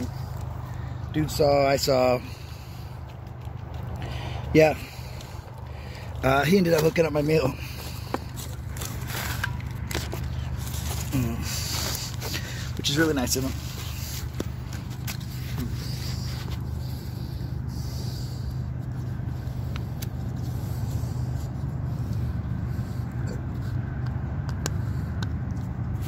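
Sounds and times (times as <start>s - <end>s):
highway traffic rumble: 0.0s - 26.0s.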